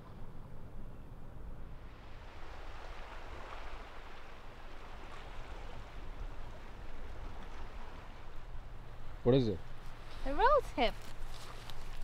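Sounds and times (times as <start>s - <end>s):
wind rumbling on microphone: 0.0s - 12.0s
surf washing on rocks: 1.9s - 12.0s.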